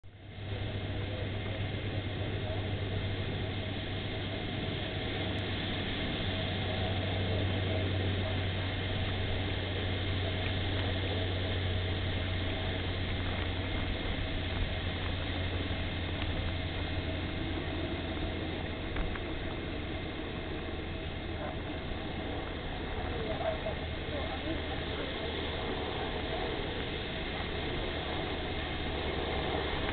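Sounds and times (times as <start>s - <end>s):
constant low hum: 0.0s - 29.9s
ocean surf breaking: 0.4s - 29.9s.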